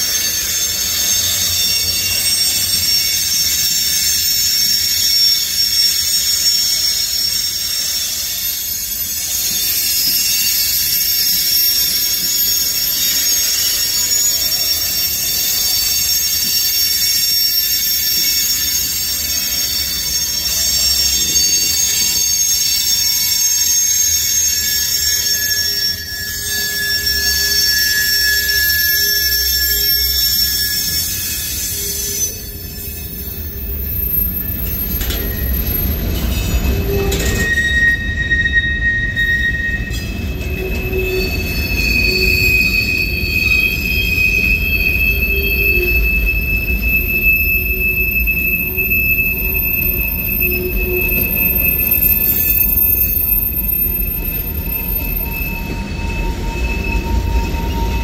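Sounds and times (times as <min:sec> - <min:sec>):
low rumble of train cars: 0:00.0 - 0:58.0
shrill train wheel squeal: 0:00.0 - 0:58.0.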